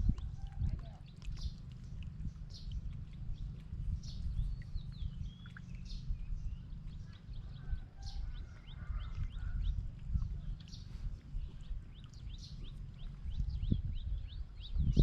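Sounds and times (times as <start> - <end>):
birds chirping: 0.0 - 15.0
low rumble: 0.0 - 15.0.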